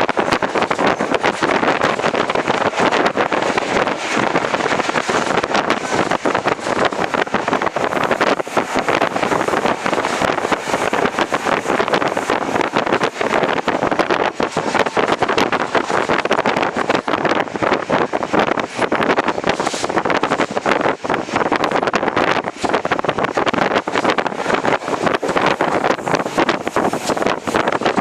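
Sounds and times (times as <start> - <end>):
train coach rattles and knocks: 0.0 - 28.0
train rumble: 0.0 - 28.0
wind rushing over microphone: 0.0 - 28.0.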